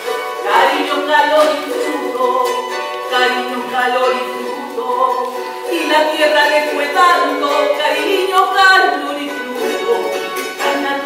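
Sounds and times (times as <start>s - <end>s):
song with singing voice: 0.0s - 11.0s.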